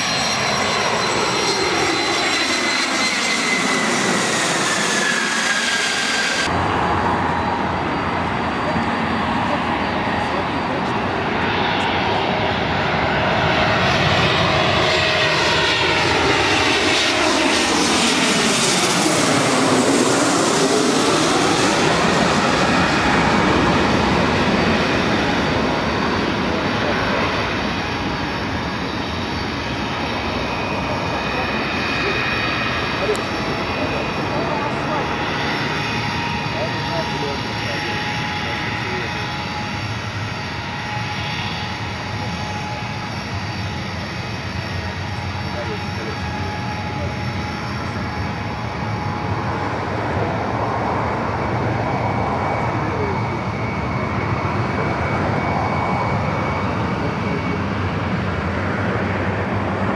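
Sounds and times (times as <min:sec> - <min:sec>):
jet engines passing overhead: 0:00.0 - 0:59.9.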